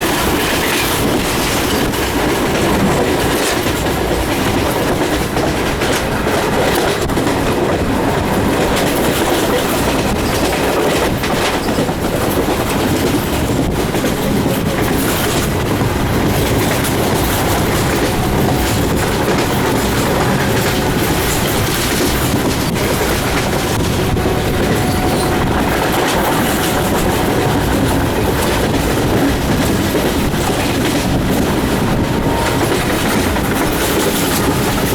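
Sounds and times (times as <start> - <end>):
train rumble and rush: 0.0 - 34.9
wheels clicking over rail joints: 0.0 - 34.9.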